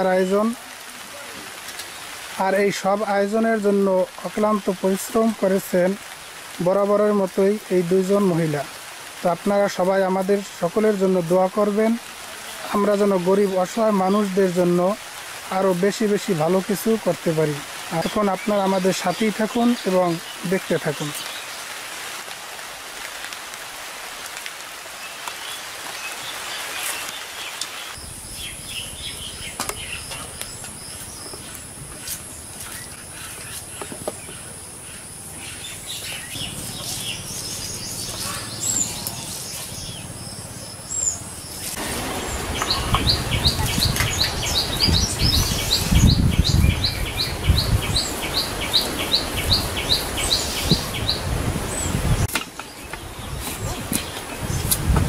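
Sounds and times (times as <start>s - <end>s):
birds chirping: 0.0s - 21.9s, 24.8s - 54.9s.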